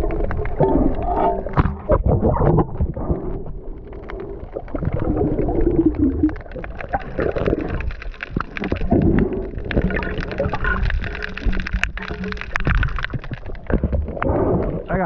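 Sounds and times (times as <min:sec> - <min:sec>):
underwater clicks and knocks: 0:00.0 - 0:15.0
underwater rumble of moving water: 0:00.0 - 0:15.0.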